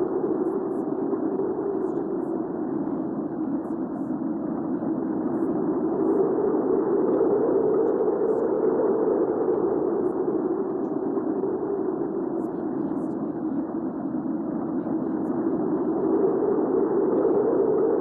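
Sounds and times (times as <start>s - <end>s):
low rushing wind: 0.0s - 18.0s.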